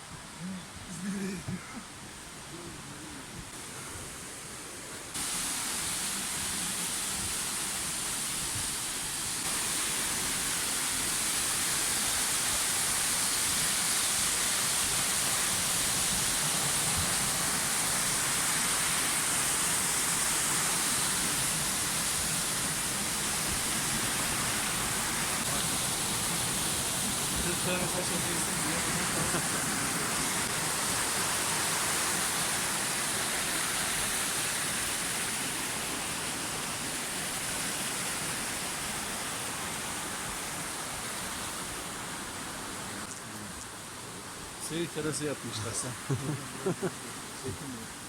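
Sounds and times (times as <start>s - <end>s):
river water rushing: 0.1s - 48.0s.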